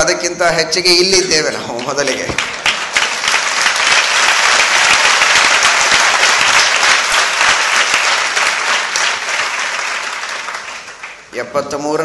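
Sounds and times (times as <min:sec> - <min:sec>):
audience applauding: 0:01.7 - 0:11.4.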